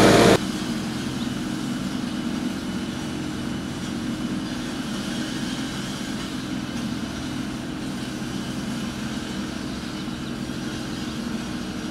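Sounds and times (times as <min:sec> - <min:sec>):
diesel engine running: 0:00.0 - 0:11.9.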